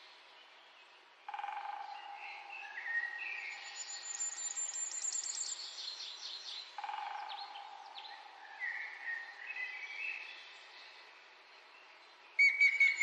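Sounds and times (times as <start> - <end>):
wild birds singing: 0.0 - 13.0.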